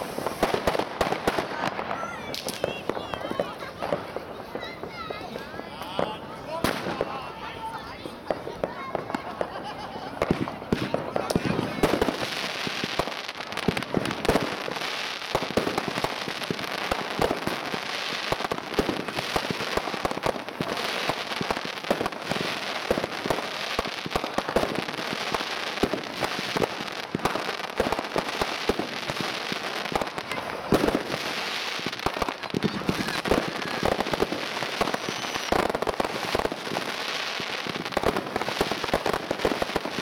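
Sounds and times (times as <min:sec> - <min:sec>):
fireworks popping and banging: 0:00.0 - 0:40.0.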